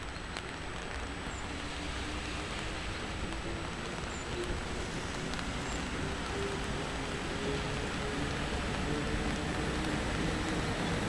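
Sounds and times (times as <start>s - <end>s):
train rumble and hiss: 0.6s - 11.0s.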